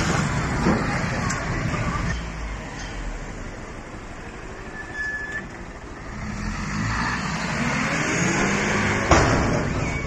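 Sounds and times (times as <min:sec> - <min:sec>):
truck engine pulling under load: 0:00.0 - 0:10.0.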